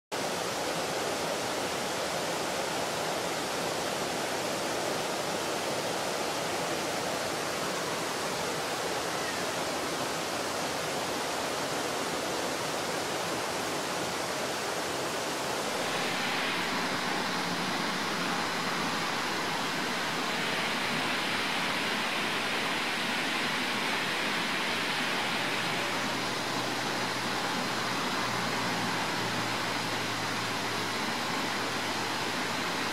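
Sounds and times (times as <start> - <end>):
creek water rushing over weir: 0.1 - 32.9.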